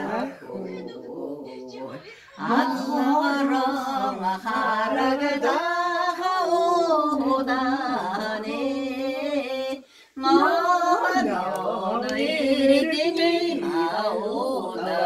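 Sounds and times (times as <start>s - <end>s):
woman singing slow melody: 0.0s - 15.0s.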